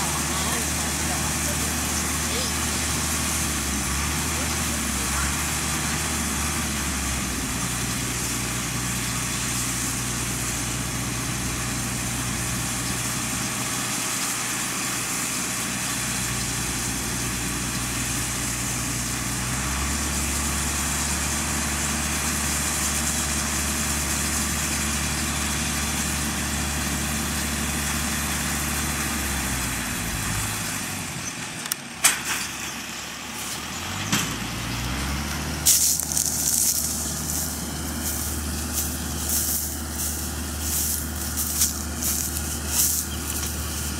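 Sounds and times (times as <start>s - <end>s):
baler rattle and hiss: 0.0s - 43.9s
tractor engine running: 0.0s - 43.9s.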